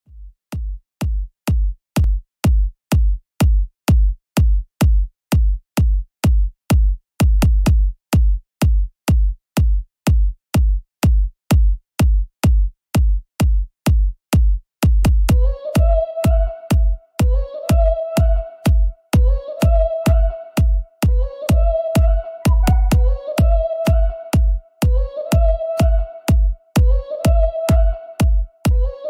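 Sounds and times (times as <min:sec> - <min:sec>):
drum machine kick beat: 0:00.1 - 0:29.0.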